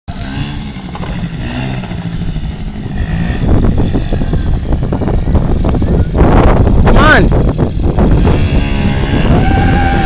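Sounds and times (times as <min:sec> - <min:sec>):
atv engine running: 0:00.1 - 0:10.0.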